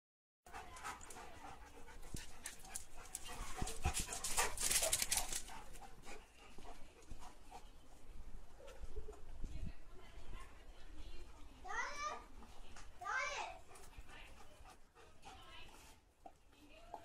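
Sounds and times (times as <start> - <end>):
dog panting: 0.5 - 9.1, 11.1 - 17.0.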